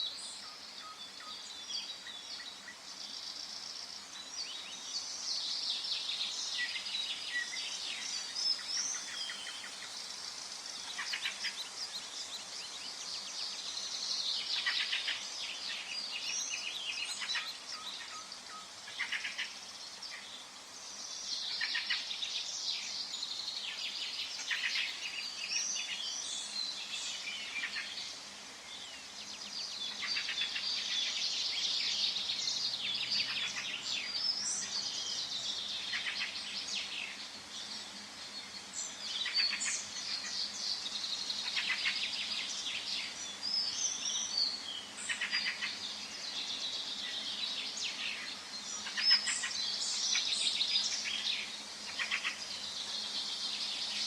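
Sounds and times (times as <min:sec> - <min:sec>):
faint background hiss: 0:00.0 - 0:54.0
forest birds singing: 0:00.0 - 0:54.0.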